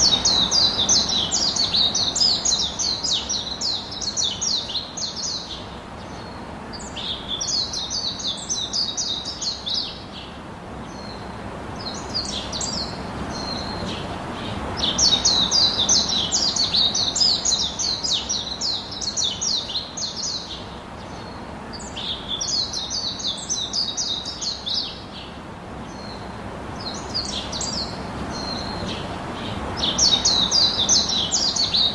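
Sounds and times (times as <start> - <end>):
songbird chirping: 0.0 - 31.9
steady background hiss: 0.0 - 31.9.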